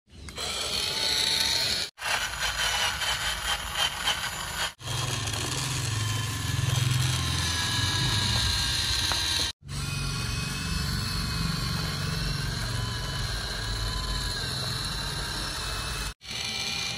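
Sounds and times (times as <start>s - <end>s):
toy electric motor and gearbox: 0.1s - 16.9s.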